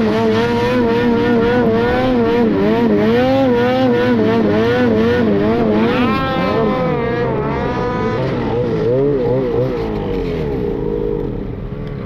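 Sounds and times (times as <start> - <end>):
snowmobile engine revving: 0.0 - 11.7.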